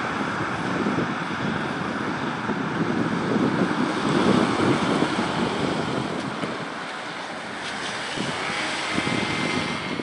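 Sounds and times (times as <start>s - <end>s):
ambulance driving past: 0.0s - 10.0s
wind on microphone: 0.0s - 10.0s.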